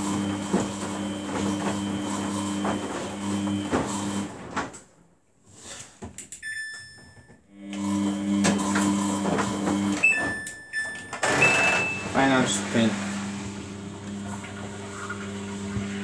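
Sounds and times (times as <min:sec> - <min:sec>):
washing machine motor hum: 0:00.0 - 0:04.6, 0:07.5 - 0:16.0.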